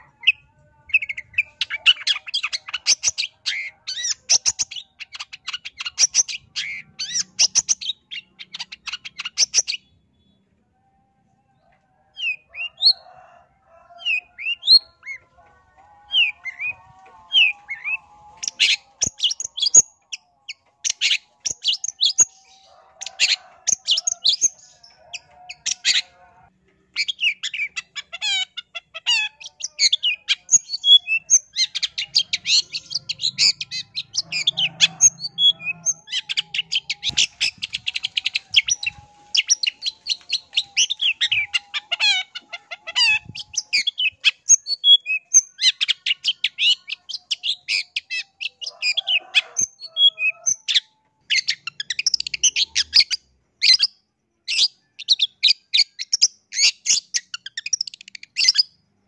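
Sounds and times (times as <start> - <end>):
bird chattering song: 1.0 - 10.4, 16.1 - 26.1, 26.8 - 58.7.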